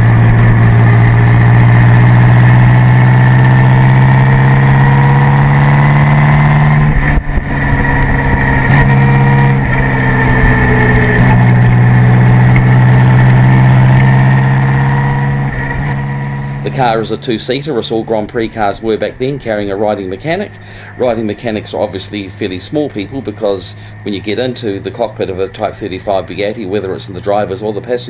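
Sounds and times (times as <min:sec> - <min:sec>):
racing car engine running: 0:00.0 - 0:28.0.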